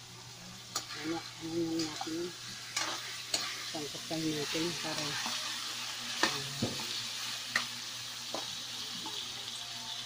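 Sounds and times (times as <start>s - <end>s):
chicken sizzling in a wok: 0.0s - 10.0s.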